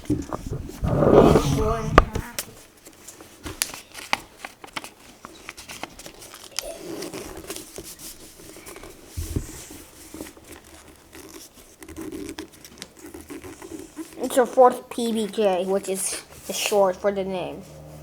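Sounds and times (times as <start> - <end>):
paper being folded and creased: 0.0 - 17.0.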